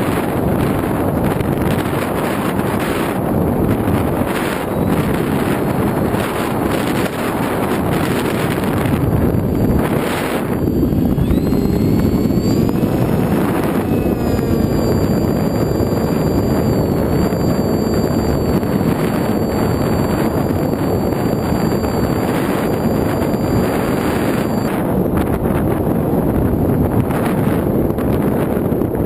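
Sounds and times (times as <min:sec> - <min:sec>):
wind rushing over microphone: 0:00.0 - 0:29.0
electric motor whine: 0:00.1 - 0:25.0.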